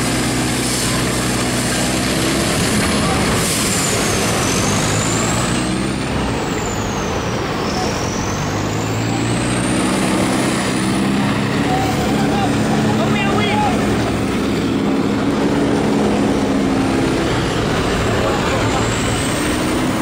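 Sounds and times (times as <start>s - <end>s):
rushing noise: 0.0s - 20.0s
vehicle engine running: 0.0s - 20.0s.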